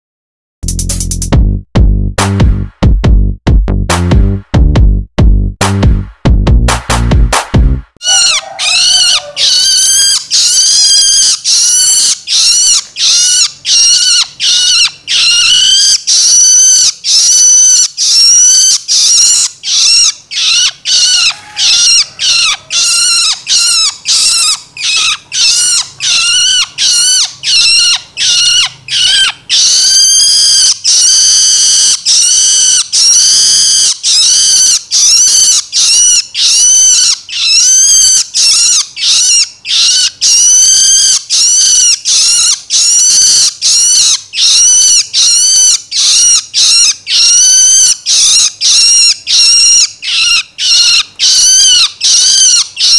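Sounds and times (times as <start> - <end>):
bird chick begging call: 8.0 - 52.9.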